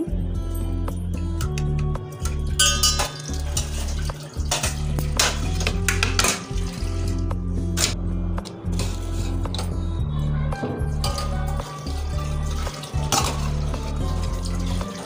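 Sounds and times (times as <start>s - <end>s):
steel utensils clinking: 1.4s - 9.8s, 10.8s - 15.0s.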